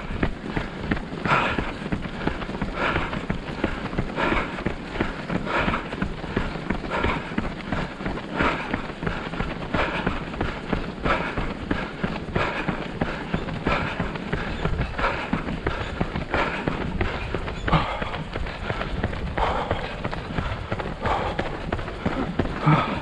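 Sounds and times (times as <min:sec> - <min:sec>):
movement rumble on microphone: 0:00.0 - 0:23.0
runner breathing: 0:00.0 - 0:23.0
runner's footsteps: 0:00.0 - 0:23.0.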